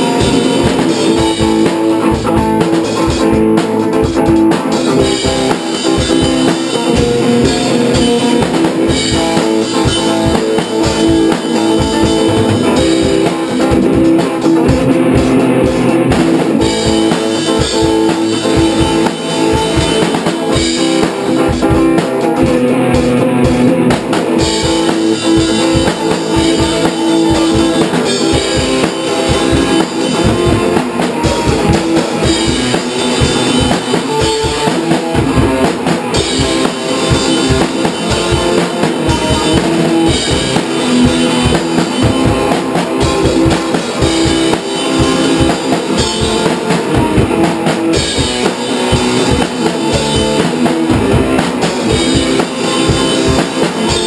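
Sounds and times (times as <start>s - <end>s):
drum kit beat: 0.0s - 54.0s
electric guitar strummed chords: 0.0s - 54.0s.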